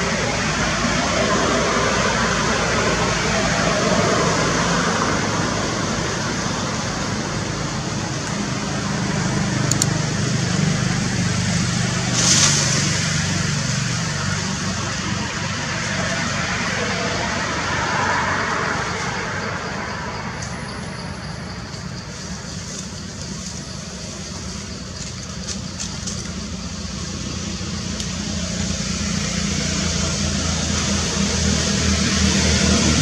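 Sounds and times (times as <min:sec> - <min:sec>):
road traffic noise: 0:00.0 - 0:33.0
vehicle engine running: 0:00.0 - 0:33.0.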